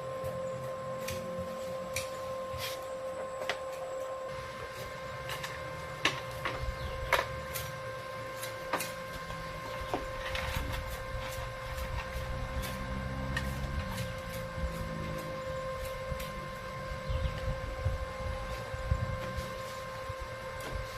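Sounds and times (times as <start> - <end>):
arc welding buzz: 0.0 - 20.9.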